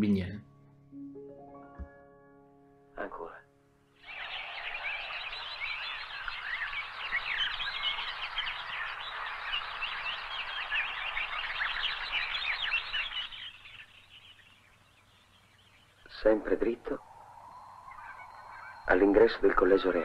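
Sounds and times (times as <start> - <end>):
small birds chirping: 4.0 - 20.0.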